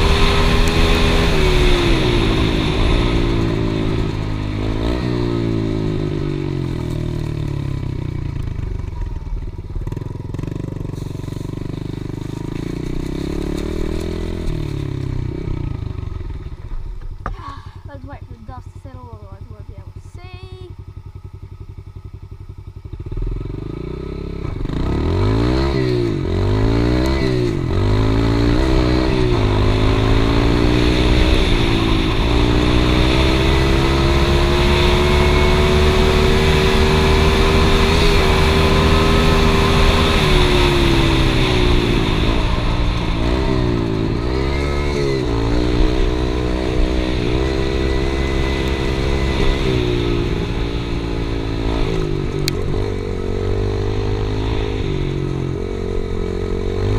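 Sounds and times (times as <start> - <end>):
dirt bike engine revving: 0.0 - 8.4, 9.1 - 16.6, 17.3 - 56.9.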